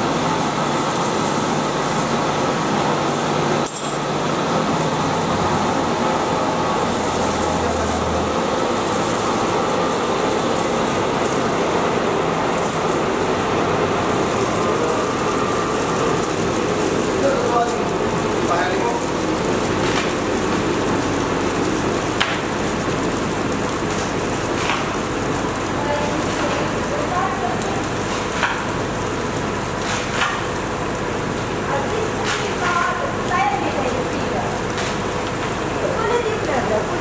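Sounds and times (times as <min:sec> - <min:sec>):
paper machine running: 0:00.0 - 0:37.0.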